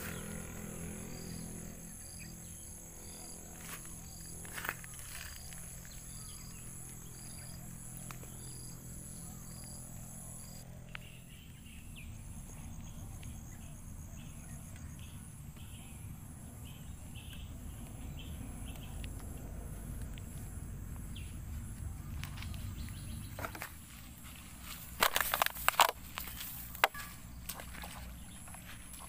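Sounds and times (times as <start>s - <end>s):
insects chirping: 0.0s - 29.0s
outdoor ambience: 0.0s - 29.0s.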